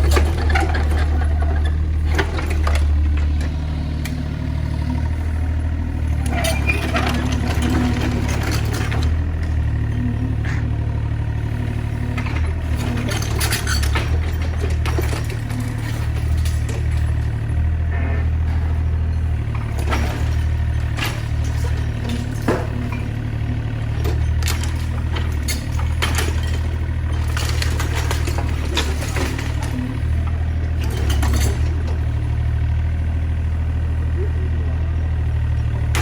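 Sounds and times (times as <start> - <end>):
demolition knocks and cracks: 0.0 - 4.3, 6.0 - 32.7, 35.4 - 36.0
excavator diesel engine running: 0.0 - 36.0.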